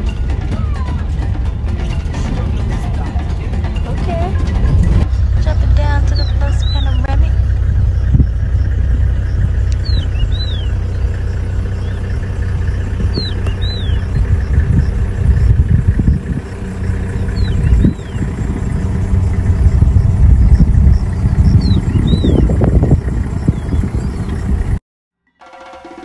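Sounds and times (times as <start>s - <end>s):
vehicle engine idling: 0.0s - 24.8s
wind rumbling on microphone: 3.8s - 24.8s.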